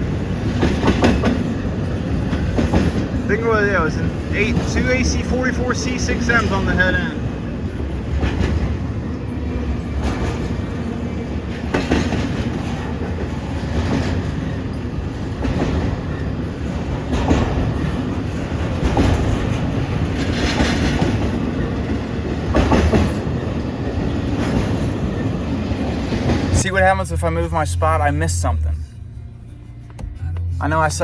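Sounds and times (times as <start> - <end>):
wheels clacking over rail joints: 0.0 - 26.6
train wheels rumbling on rail: 0.0 - 28.8.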